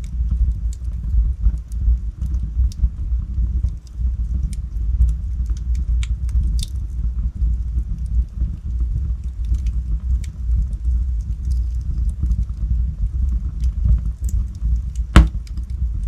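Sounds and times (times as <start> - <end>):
fire rumbling: 0.0 - 16.0
logs crackling and popping: 0.0 - 16.0.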